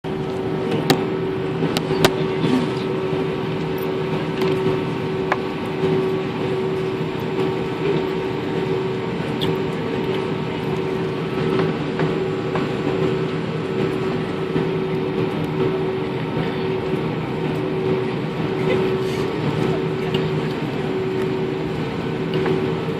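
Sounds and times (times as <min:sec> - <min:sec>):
vehicle engine drone: 0:00.0 - 0:22.9.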